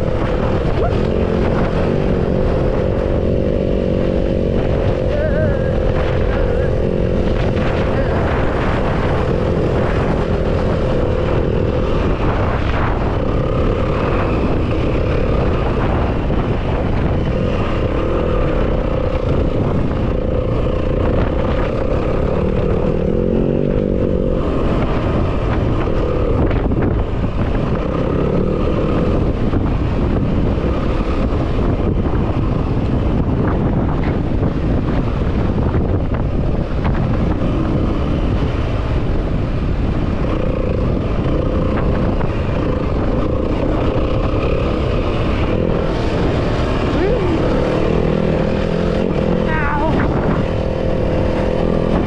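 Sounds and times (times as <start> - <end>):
dirt bike engine running: 0.0 - 52.0.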